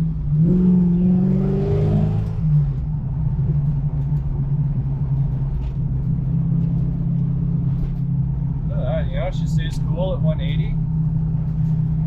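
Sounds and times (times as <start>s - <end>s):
car engine droning inside car: 0.0s - 12.0s.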